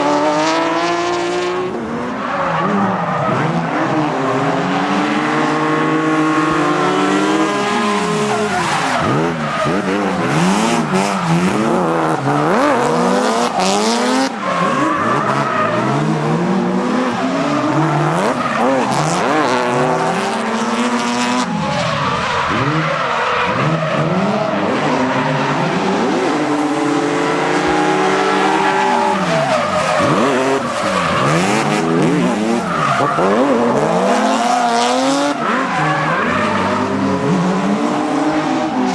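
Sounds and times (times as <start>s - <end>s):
car engines revving hard: 0.0s - 38.9s
tyres skidding on tarmac: 0.0s - 38.9s.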